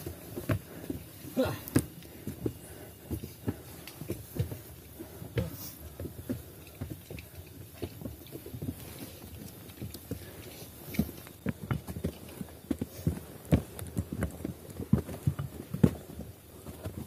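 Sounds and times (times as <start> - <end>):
footsteps on a trail: 0.0 - 17.0.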